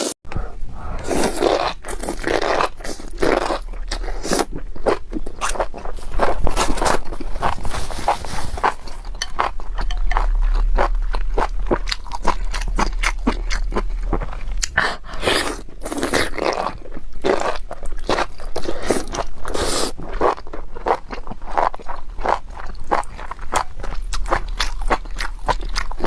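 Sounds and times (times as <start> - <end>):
low steady hum: 0.3 - 26.0
close chewing crunchy food: 1.0 - 26.0.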